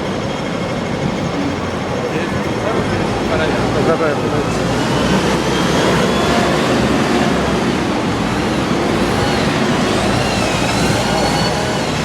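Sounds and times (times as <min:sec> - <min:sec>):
road traffic din: 0:00.0 - 0:12.0.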